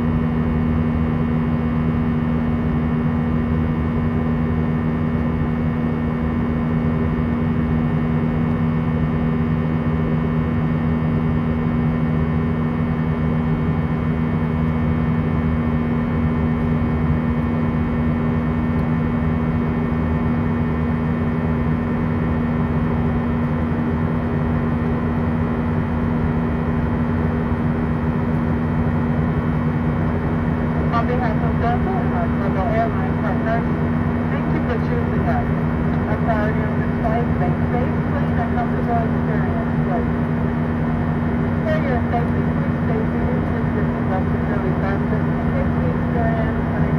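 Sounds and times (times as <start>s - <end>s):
constant low hum: 0.0s - 46.9s.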